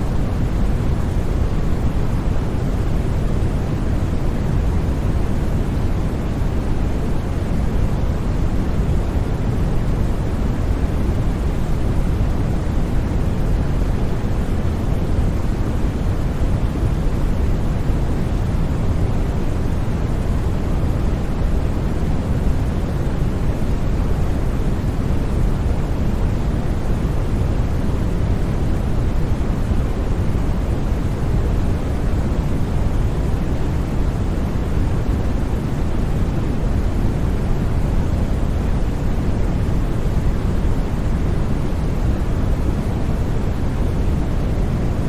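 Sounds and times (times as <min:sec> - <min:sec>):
steady white noise: 0:00.0 - 0:45.0.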